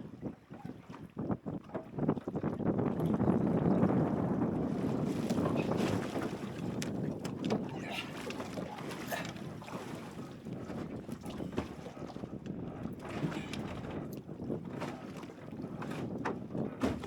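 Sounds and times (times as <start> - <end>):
water splashing against boat: 0.0 - 17.0
wind rumbling on microphone: 0.0 - 17.0.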